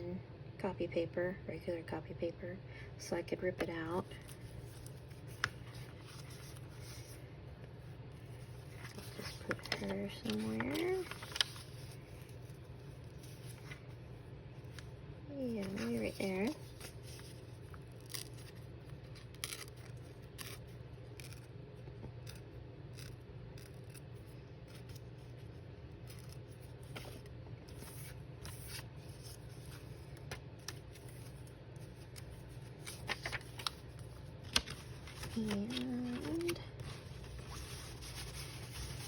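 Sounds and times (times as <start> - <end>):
paper rustling: 4.1 - 21.5, 22.2 - 39.0.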